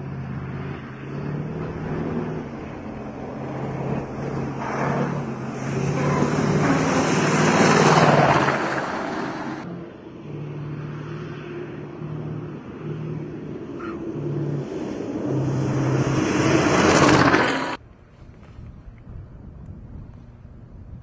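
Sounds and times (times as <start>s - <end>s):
truck diesel engine running hard: 0.0s - 17.8s.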